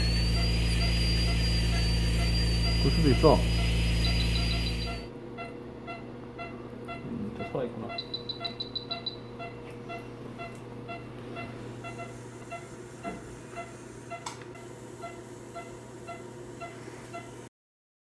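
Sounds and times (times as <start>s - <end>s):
low hum: 0.0s - 14.6s
patient monitor beeping: 0.0s - 17.5s.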